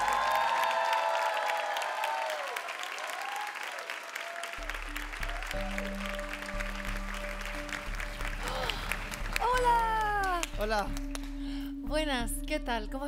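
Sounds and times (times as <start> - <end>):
audience applause: 0.0 - 11.3.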